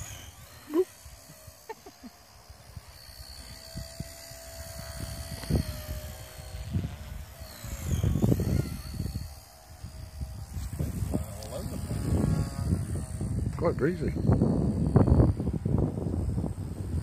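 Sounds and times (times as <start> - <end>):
toy helicopter motors whining: 0.0 - 17.0
wind buffeting microphone: 2.7 - 17.0.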